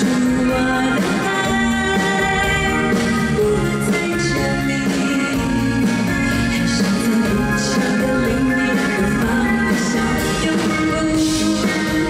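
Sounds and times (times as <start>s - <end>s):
live pop band playing ballad: 0.0s - 12.0s
woman singing into microphone: 0.0s - 12.0s.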